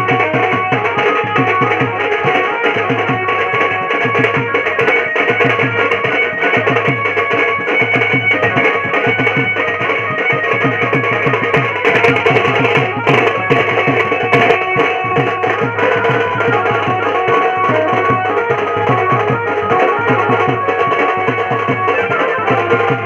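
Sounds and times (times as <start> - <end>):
fast drum beat: 0.0 - 23.0
sustained melody: 0.0 - 23.0.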